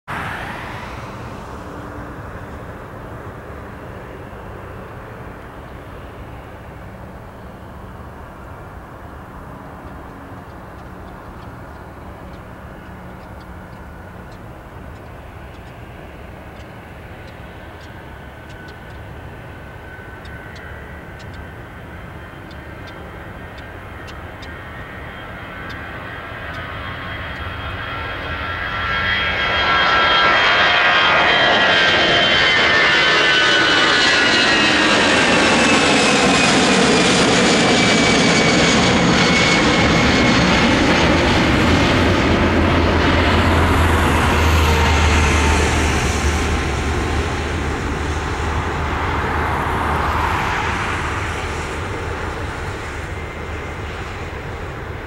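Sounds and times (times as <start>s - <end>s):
jet engines taking off: 0.1s - 55.0s.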